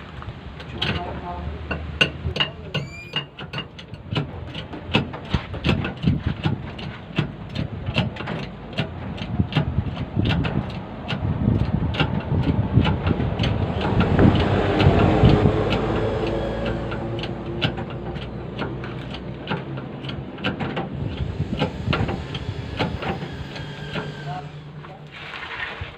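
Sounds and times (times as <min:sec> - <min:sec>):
engine running: 0:00.0 - 0:25.6
tools knocking on truck tyre: 0:00.8 - 0:23.2.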